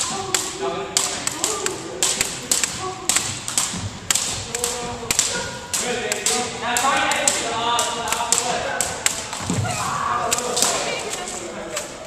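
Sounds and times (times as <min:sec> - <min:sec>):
jump ropes slapping a wooden floor: 0:00.0 - 0:12.0.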